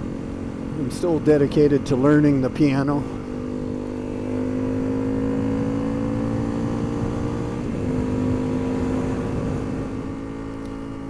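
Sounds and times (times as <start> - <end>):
low wind rumble: 0.0 - 11.0
motorcycle engine running: 0.0 - 11.0.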